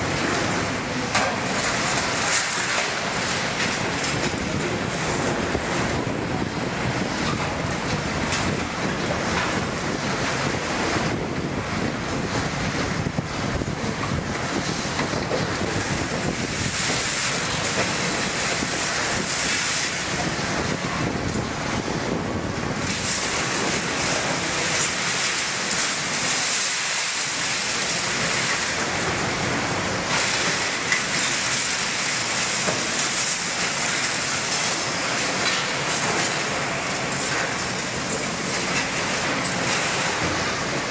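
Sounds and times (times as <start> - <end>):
diesel engines under load: 0.0 - 40.9.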